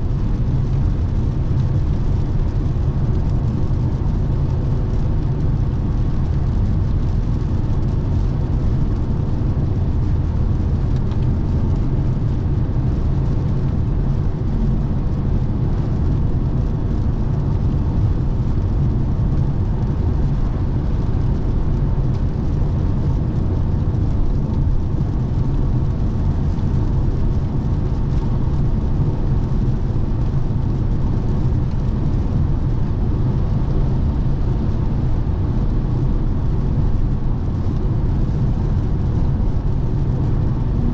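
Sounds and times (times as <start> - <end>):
road and tyre rumble: 0.0 - 40.9.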